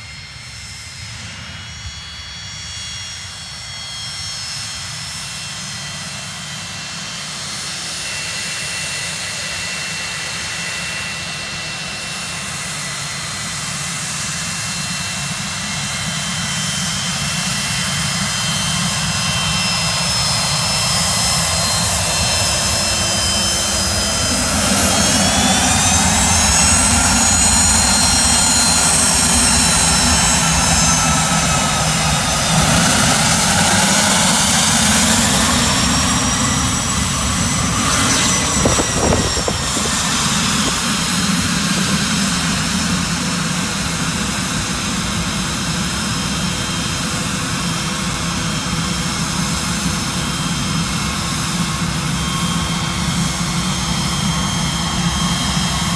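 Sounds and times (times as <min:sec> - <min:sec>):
jet engines taxiing: 0:00.0 - 0:55.9.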